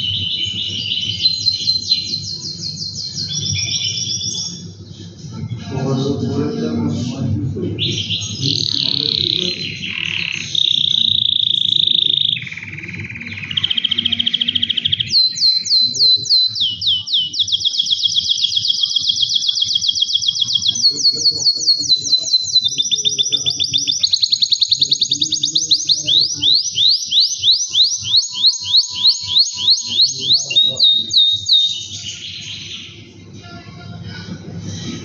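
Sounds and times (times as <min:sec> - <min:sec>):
canary singing trills: 0:00.0 - 0:04.8, 0:07.7 - 0:33.2.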